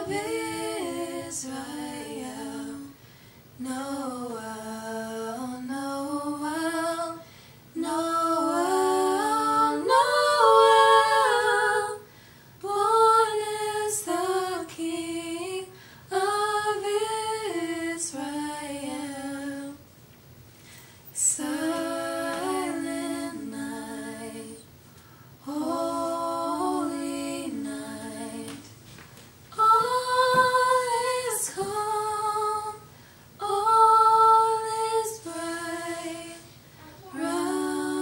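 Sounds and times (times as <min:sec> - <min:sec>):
women singing a cappella: 0:00.0 - 0:19.9, 0:21.1 - 0:24.8, 0:25.4 - 0:28.9, 0:29.5 - 0:38.0.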